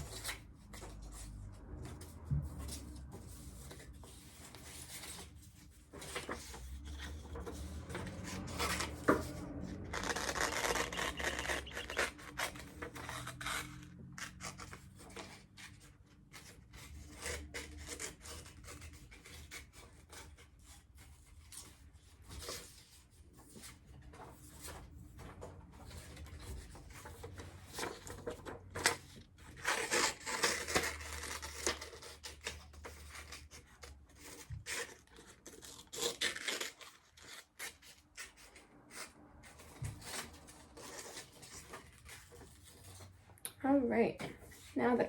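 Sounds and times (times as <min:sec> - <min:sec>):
paper rustling: 0:00.0 - 0:43.4
scissors cutting paper: 0:02.6 - 0:23.8, 0:25.8 - 0:43.2.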